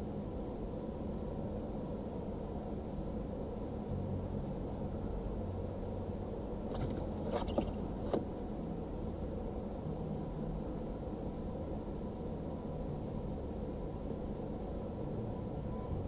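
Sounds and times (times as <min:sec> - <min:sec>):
car idling hum: 0:00.0 - 0:16.0.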